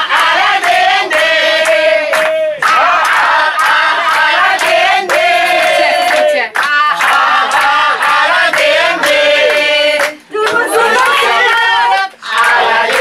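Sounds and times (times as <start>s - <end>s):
group of people singing: 0.0s - 13.0s
hands clapping in time: 0.1s - 13.0s.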